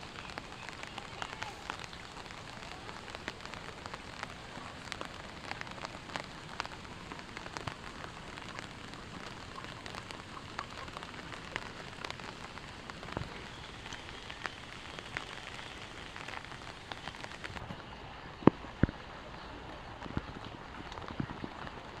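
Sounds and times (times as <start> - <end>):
raindrops ticking sharply: 0.0 - 22.0
steady rain: 0.0 - 22.0.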